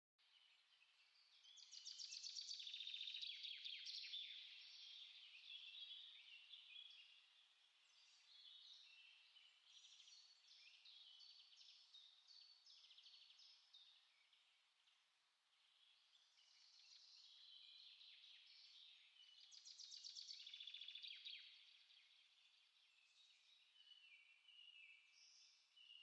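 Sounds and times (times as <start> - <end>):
small songbirds singing: 0.2 - 26.0.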